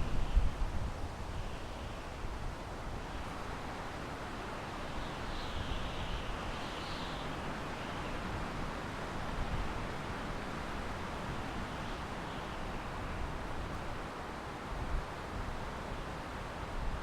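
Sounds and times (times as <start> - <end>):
wind through pine trees: 0.0 - 17.0.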